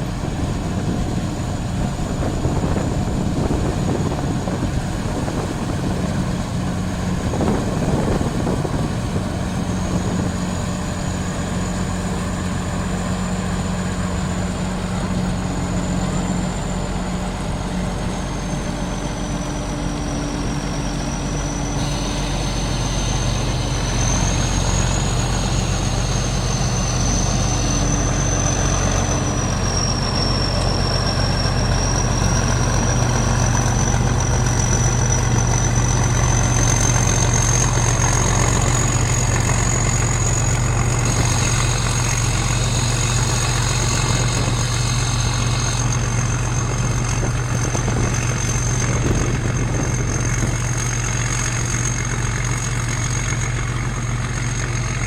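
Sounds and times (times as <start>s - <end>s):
harvester engine drone: 0.0s - 55.0s
thin high whine: 0.0s - 55.0s.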